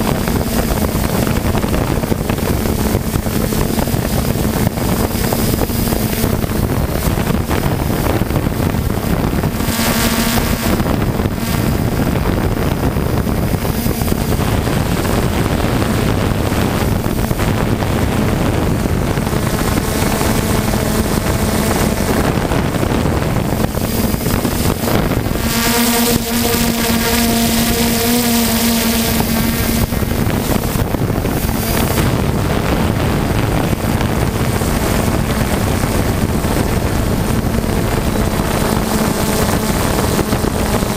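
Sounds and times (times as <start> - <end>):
quadcopter propellers buzzing: 0.0 - 40.9
wind on microphone: 0.0 - 40.9.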